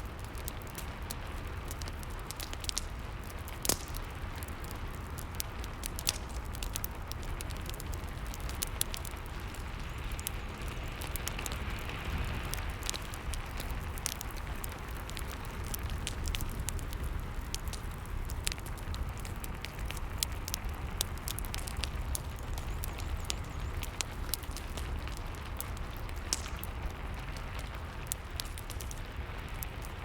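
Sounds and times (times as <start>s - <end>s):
fireplace crackling and popping: 0.0s - 30.0s.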